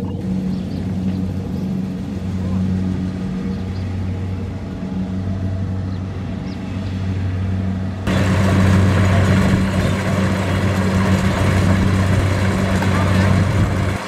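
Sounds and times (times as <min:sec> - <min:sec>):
combine harvester diesel engine: 0:00.0 - 0:14.0.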